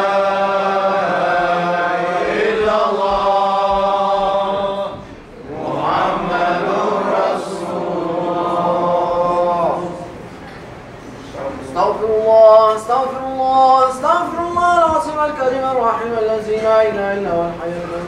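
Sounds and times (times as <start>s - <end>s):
men chanting devotional recitation: 0.0s - 10.2s, 11.4s - 18.0s.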